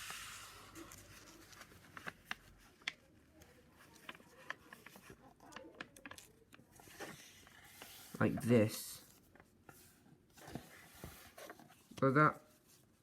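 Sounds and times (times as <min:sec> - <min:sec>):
paper folding and creasing: 0:00.0 - 0:13.0.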